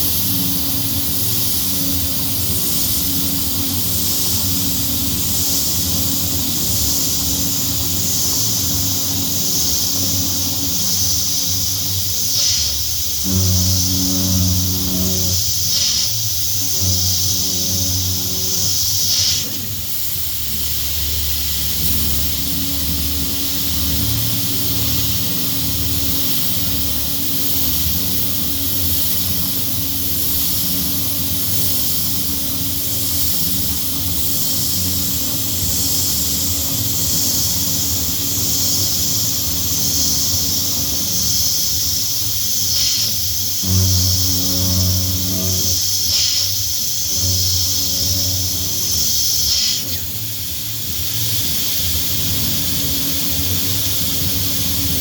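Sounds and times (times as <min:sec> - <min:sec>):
cnc router spindle cutting: 0:00.0 - 0:55.0.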